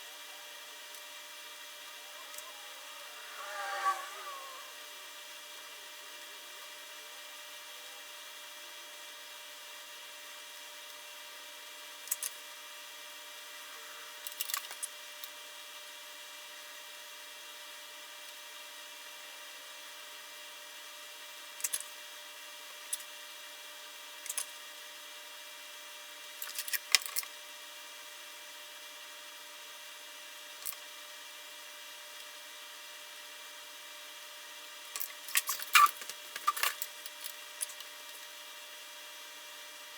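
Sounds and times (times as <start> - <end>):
thin constant hum: 0.0 - 39.9.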